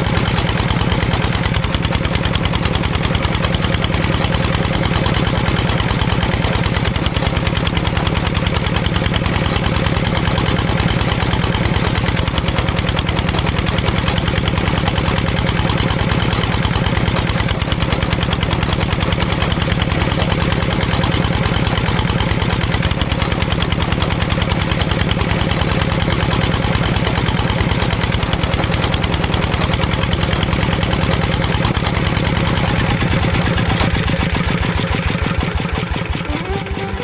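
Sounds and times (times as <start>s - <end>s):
small engine idling: 0.0s - 37.0s.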